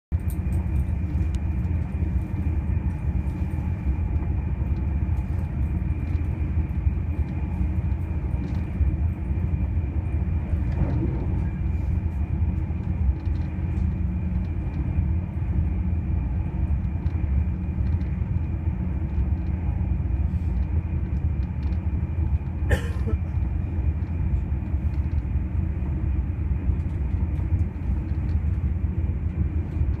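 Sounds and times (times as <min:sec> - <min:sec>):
train rumbling with high whine: 0:00.1 - 0:30.0.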